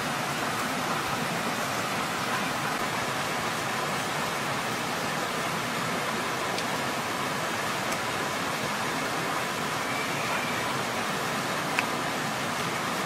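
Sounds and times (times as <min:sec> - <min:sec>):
stream flowing over rocks: 0:00.0 - 0:13.0.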